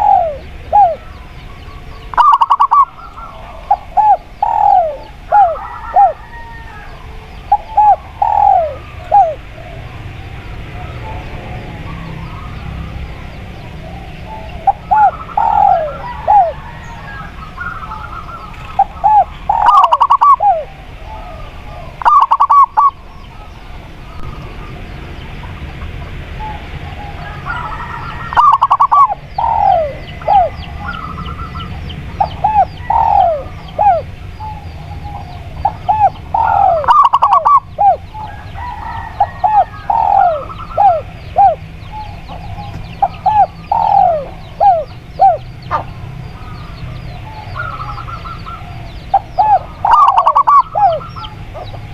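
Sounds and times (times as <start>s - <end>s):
doves cooing: 0.0s - 51.9s
steady low hum: 0.0s - 51.9s.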